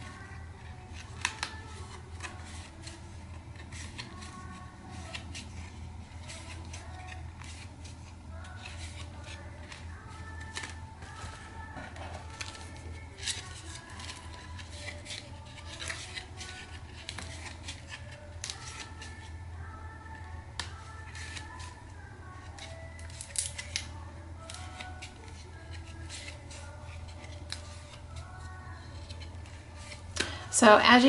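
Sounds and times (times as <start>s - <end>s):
stiff paper pages crinkling: 0.1s - 19.4s, 20.6s - 30.4s.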